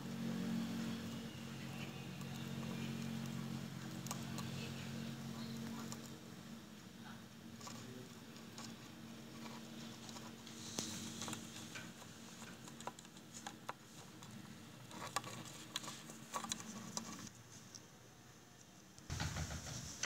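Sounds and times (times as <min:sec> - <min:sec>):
steady low hum: 0:00.0 - 0:20.0
little clicks and scratches: 0:00.4 - 0:06.9, 0:07.5 - 0:17.9.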